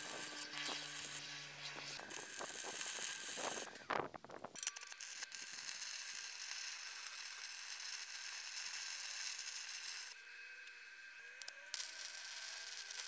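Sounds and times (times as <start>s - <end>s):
welding arc crackling and hissing: 0.0s - 10.2s, 11.4s - 13.0s.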